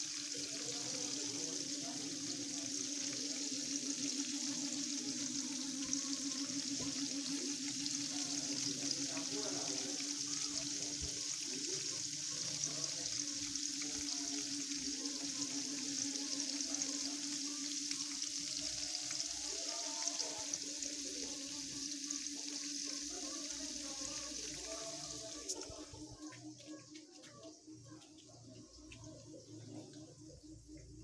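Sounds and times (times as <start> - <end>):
tofu sizzling in hot oil: 0.0 - 25.6.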